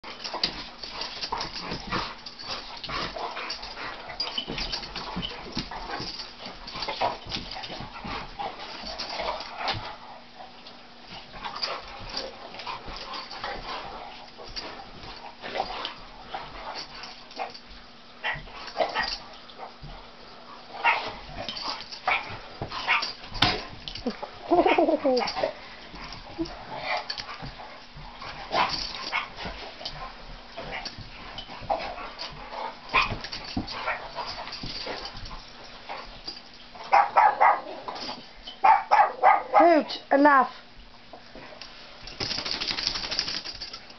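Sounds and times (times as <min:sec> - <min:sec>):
dogs play-fighting: 0:00.0 - 0:43.9.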